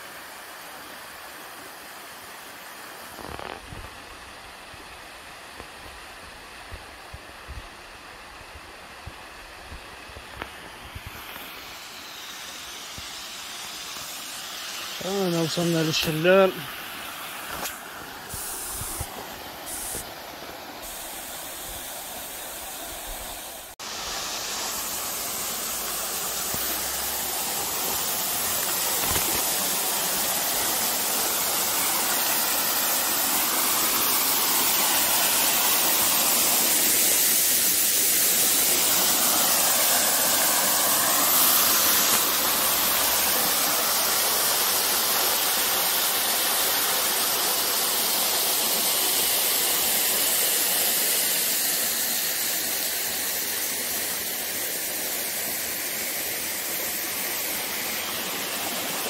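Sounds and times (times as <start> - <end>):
small waterfall splashing into pool: 0.0 - 59.0.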